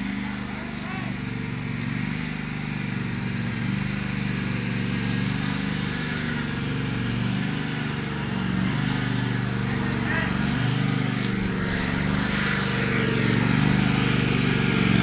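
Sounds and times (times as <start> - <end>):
riding lawn mower engine running: 0.0 - 15.0.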